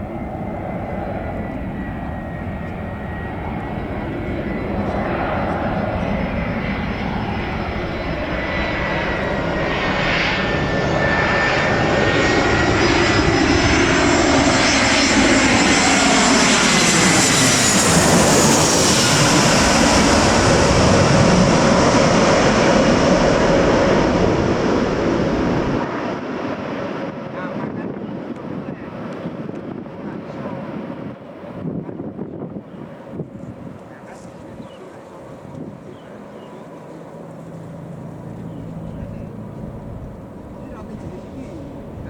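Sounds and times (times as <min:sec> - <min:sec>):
jet engines passing overhead: 0:00.0 - 0:42.0.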